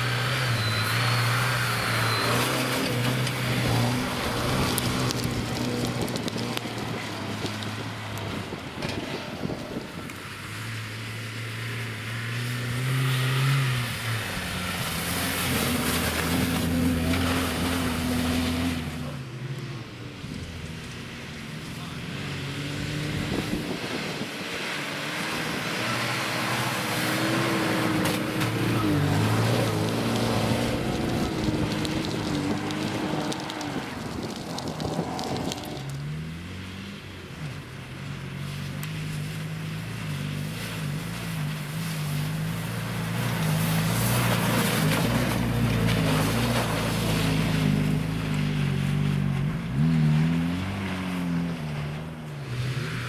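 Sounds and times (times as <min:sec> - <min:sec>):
suv engines labouring: 0:00.0 - 0:53.0.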